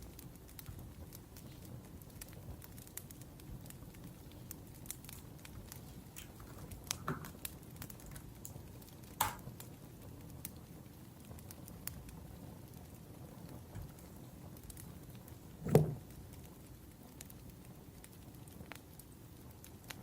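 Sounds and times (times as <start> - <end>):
loud fire pops: 0.0 - 20.0
wood fire crackling: 0.0 - 20.0.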